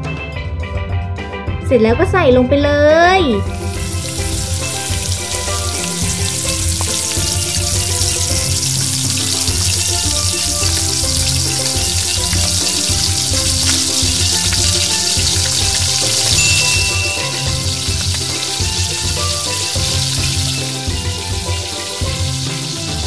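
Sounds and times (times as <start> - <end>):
food sizzling in hot oil: 3.4 - 23.0.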